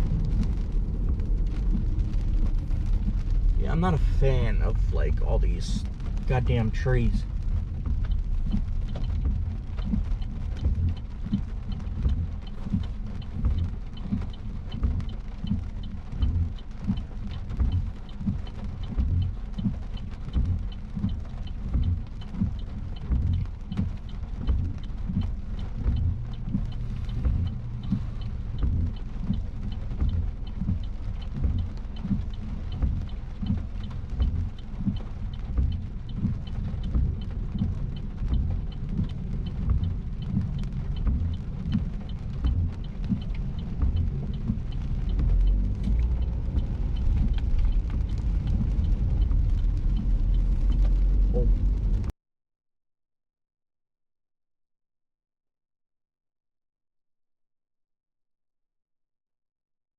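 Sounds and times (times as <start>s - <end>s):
car road noise rumble: 0.0s - 52.1s.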